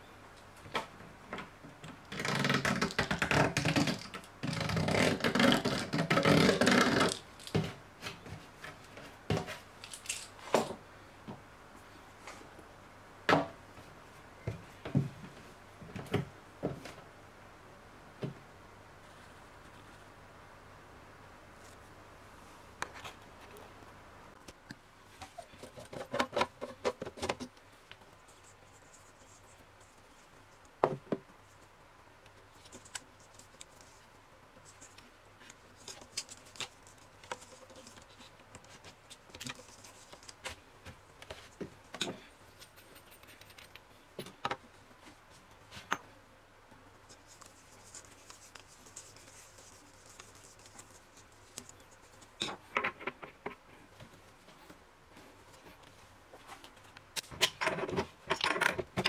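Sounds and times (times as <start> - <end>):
soft rustling hiss: 0.0 - 59.0.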